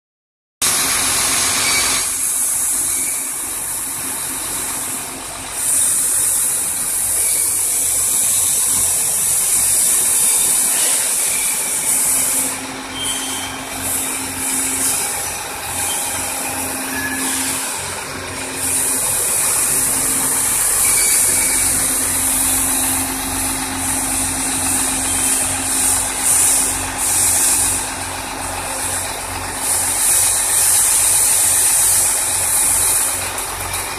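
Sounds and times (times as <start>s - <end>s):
diesel truck engine idling: 0.6s - 33.9s.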